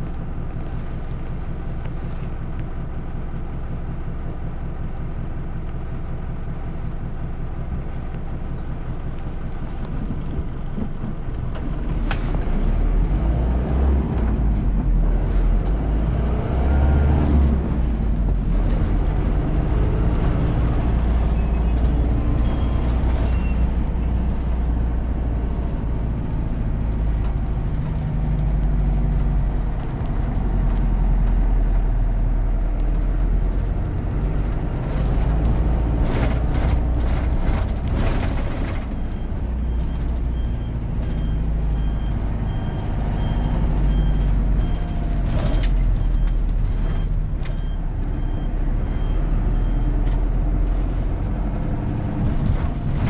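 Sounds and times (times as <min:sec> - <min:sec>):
bus engine droning: 0:00.0 - 0:53.0.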